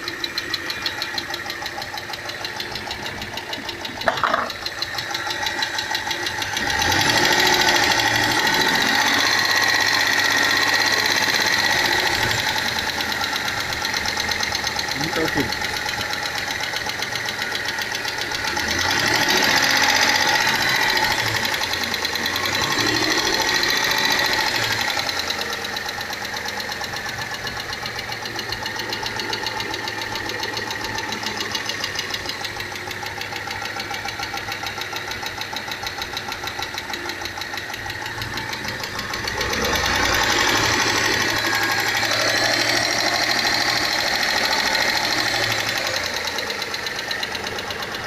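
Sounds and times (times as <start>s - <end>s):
engine running with rhythmic knock: 0.0s - 48.0s.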